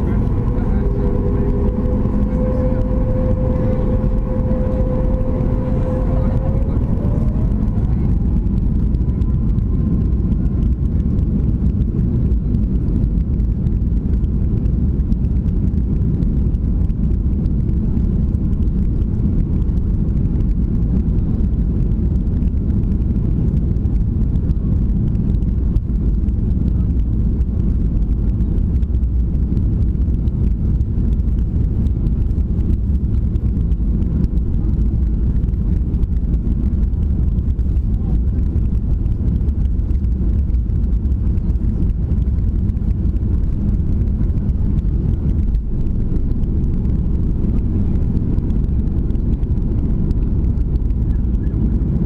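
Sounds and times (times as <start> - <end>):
jet engine roar in cabin: 0.0 - 52.0.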